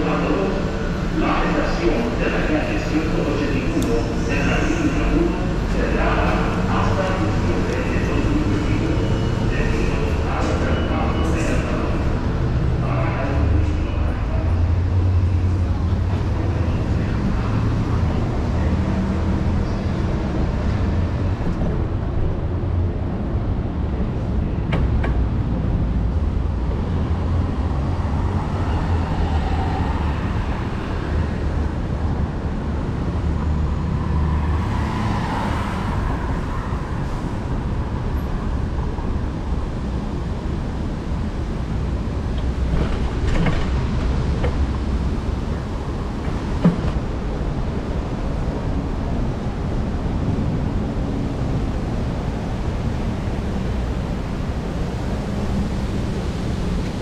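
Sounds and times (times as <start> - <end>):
passing cars rumbling: 0.0 - 57.0.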